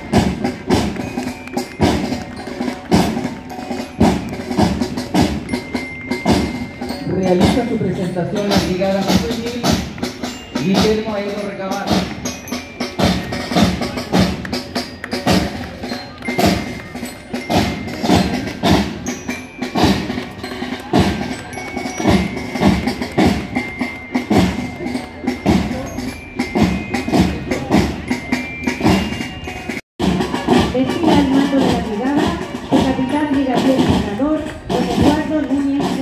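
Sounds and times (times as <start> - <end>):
high bell-like notes: 0.0 - 29.8
marching band drums: 0.0 - 36.0.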